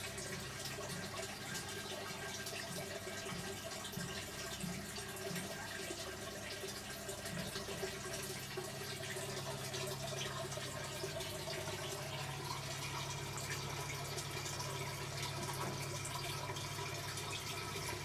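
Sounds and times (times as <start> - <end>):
low steady hum: 0.0 - 18.0
water trickling: 0.0 - 18.0.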